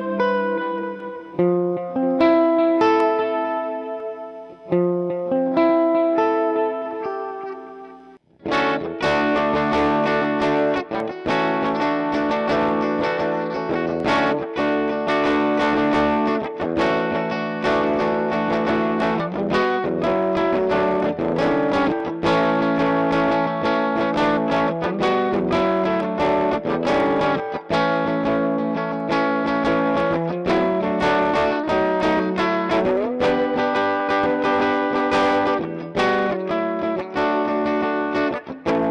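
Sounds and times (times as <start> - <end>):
electric guitar playing: 0.0 - 38.9.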